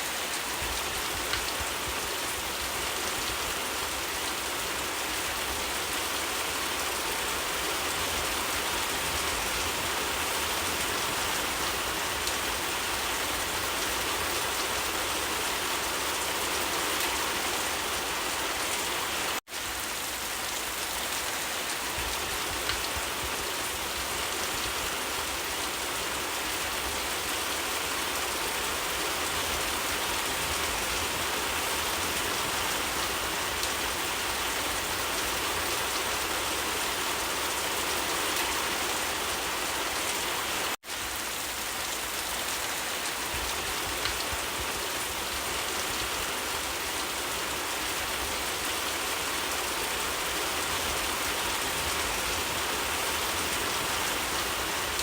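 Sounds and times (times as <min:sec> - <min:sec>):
dense rain pattering: 0:00.0 - 0:55.0.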